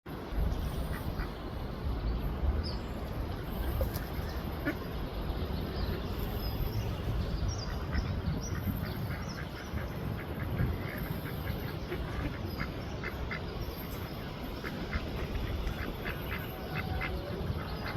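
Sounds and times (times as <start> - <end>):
steady low rumble: 0.1 - 17.9.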